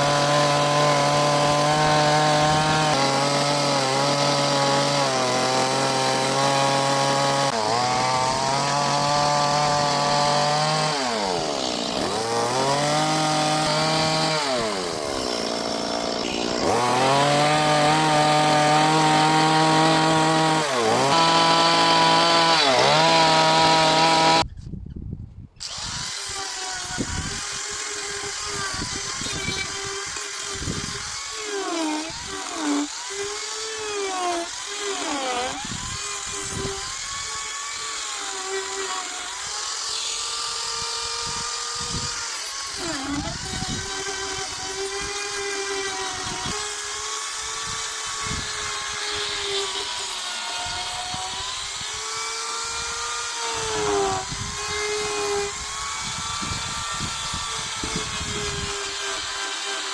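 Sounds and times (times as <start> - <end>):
buzzing power tool: 0.0 - 24.4, 25.6 - 59.9
chainsaw cutting into wood: 0.0 - 24.5, 25.6 - 59.9.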